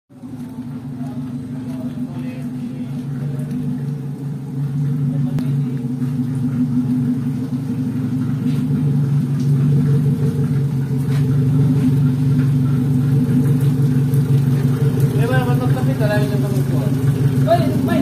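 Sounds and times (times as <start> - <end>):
engine idling: 0.1 - 18.0.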